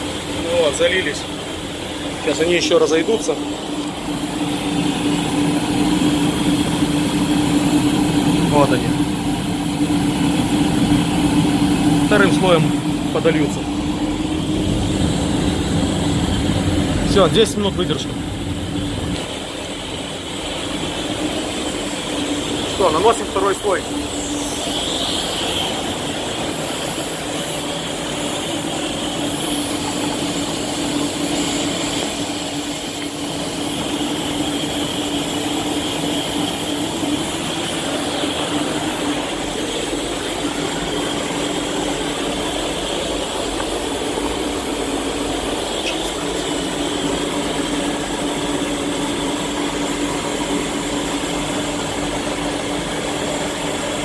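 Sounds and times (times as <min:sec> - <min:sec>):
spray booth air flow: 0:00.0 - 0:54.0.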